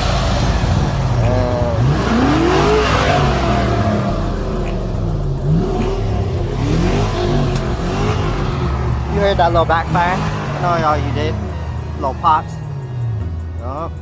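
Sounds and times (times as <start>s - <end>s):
car engine revving: 0.0s - 14.0s
exhaust pops: 0.0s - 14.0s.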